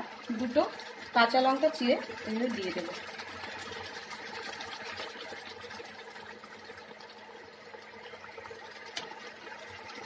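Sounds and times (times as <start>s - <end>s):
curry bubbling in a pan: 0.0s - 10.0s.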